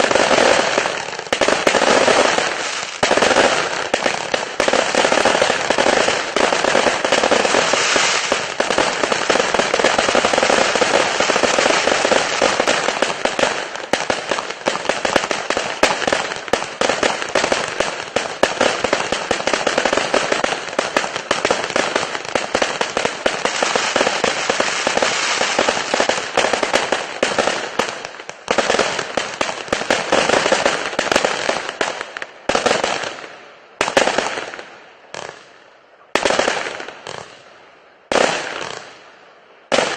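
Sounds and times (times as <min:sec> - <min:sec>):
fireworks cake firing rapid shots: 0:00.0 - 0:35.5, 0:38.1 - 0:39.0.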